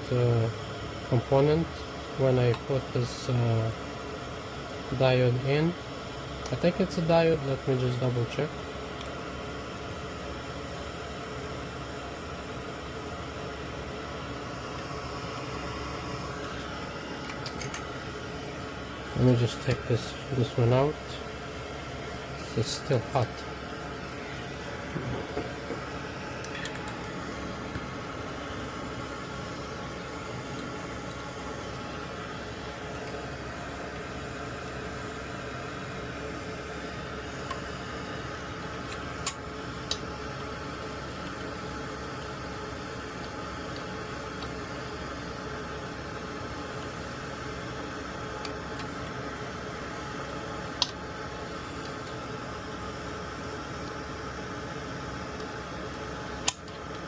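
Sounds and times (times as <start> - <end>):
fan hissing: 0.0 - 57.0.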